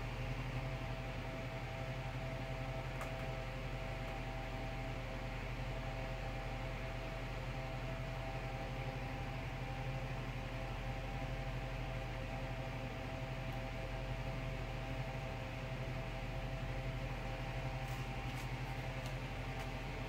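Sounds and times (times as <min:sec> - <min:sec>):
room tone hum and hiss: 0:00.0 - 0:20.0.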